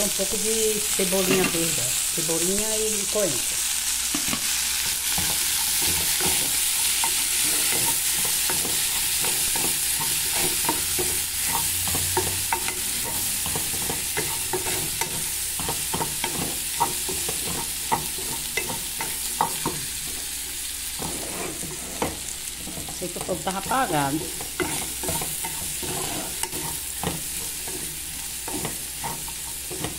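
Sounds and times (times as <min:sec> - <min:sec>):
sausage and onion sizzling: 0:00.0 - 0:29.9
wooden spoon scraping and knocking pot: 0:01.1 - 0:01.9, 0:04.1 - 0:20.3, 0:21.0 - 0:29.9.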